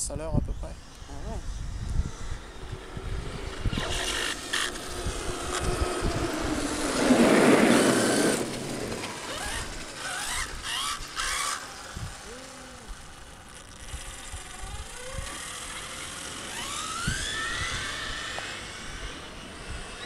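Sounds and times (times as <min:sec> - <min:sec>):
rc car whining: 0:00.0 - 0:20.0
rc truck driving past: 0:00.5 - 0:20.0.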